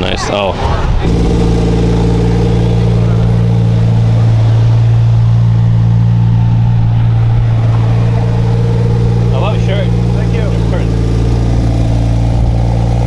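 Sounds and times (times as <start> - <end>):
car engine idling: 0.9 - 13.0.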